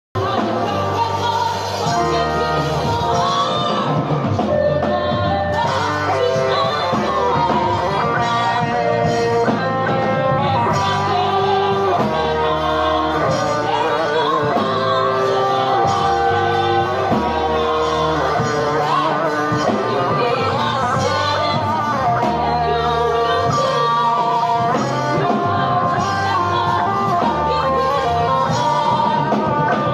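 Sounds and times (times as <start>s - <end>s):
bass: 0.1s - 29.9s
electric guitar lead lines: 0.2s - 29.9s
people singing: 0.2s - 29.9s.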